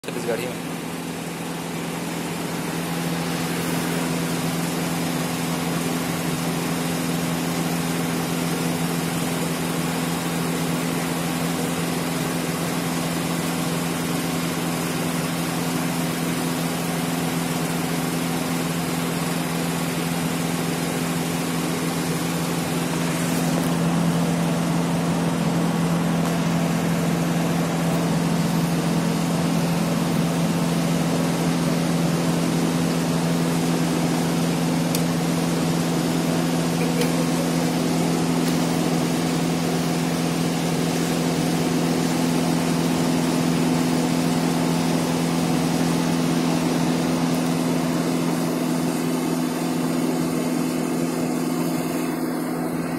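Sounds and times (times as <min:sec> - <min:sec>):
mechanical hum with low drone: 0:00.0 - 0:52.9.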